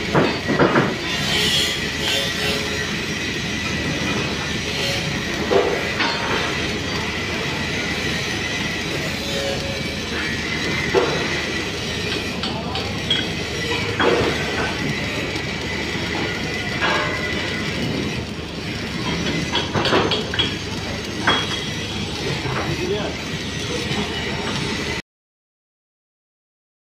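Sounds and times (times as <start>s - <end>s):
welding arc crackling hiss: 0.0s - 25.0s.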